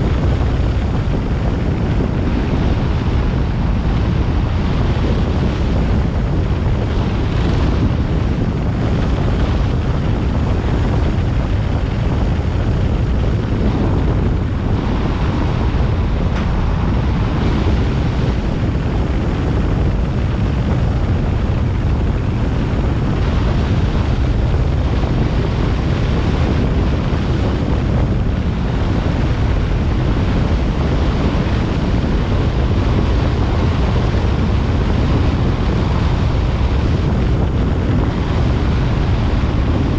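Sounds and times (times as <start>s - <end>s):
road vehicle rumble: 0.0s - 39.9s
wind buffeting microphone: 0.0s - 39.9s.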